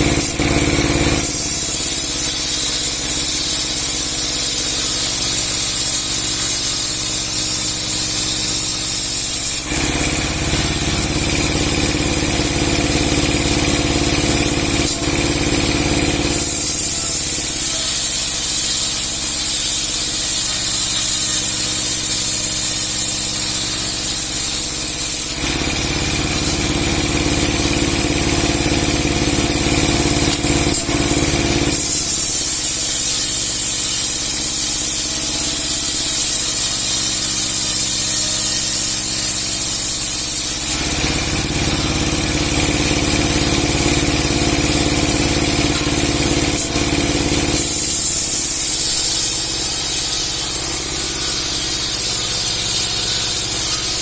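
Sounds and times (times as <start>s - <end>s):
sawmill blade ripping logs: 0.0s - 54.0s.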